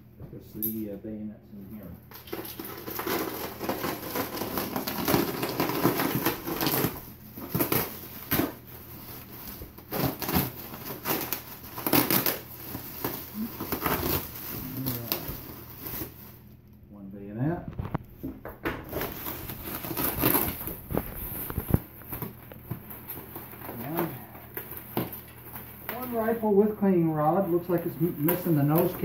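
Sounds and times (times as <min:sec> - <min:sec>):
bubble wrap crinkling: 0:02.1 - 0:16.6, 0:18.8 - 0:29.0.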